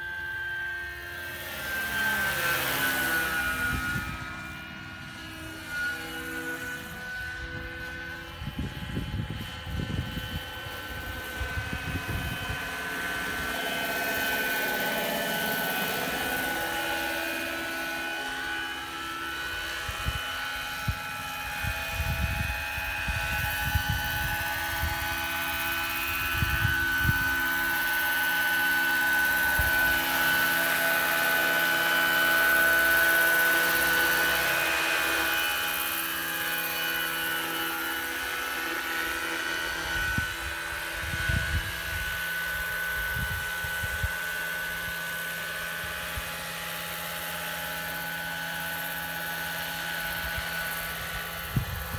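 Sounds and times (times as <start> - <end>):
model helicopter motor and rotors whine: 0.0 - 51.9.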